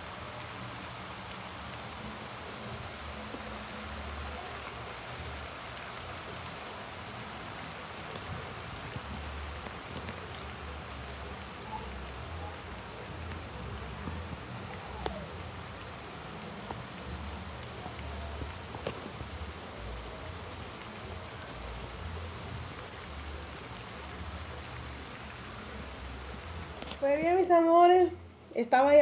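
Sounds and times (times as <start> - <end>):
steady rain on plants: 0.0 - 29.0.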